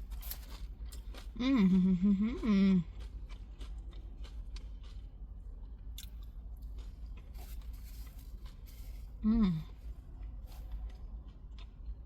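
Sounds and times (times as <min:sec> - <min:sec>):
chewing crunchy chips: 0:00.0 - 0:12.0.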